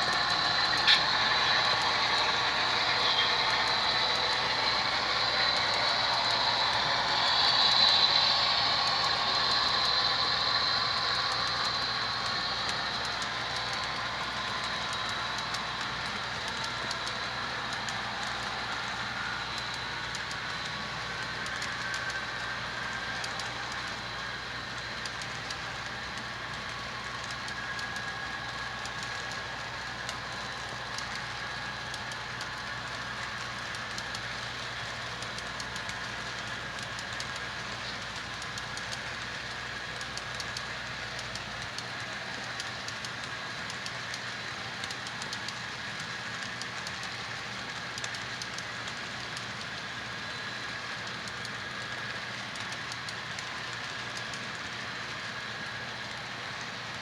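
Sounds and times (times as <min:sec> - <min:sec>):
faint high whine: 0:00.0 - 0:57.0
model train rolling on track: 0:00.0 - 0:57.0.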